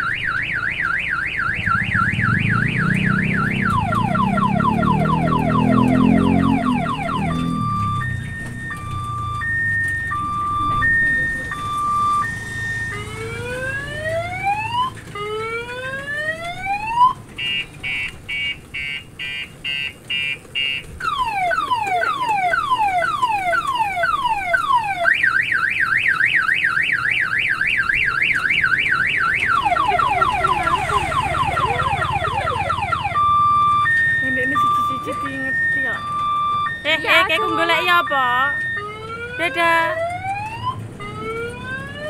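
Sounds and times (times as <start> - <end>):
electronic car alarm siren: 0.0 - 42.0.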